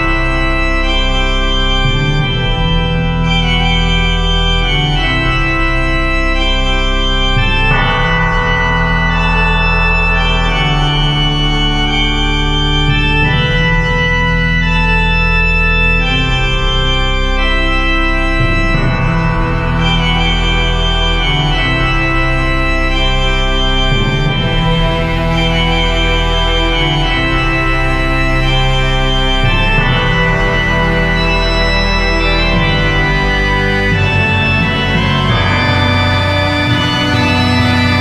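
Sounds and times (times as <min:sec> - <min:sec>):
organ playing sustained chords: 0:00.0 - 0:38.0.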